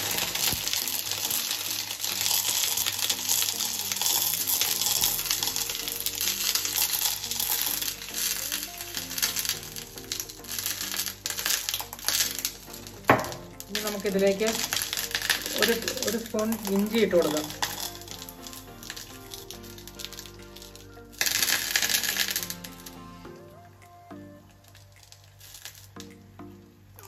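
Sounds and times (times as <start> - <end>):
hot oil sizzling: 0.0 - 23.0
background music: 0.0 - 27.0.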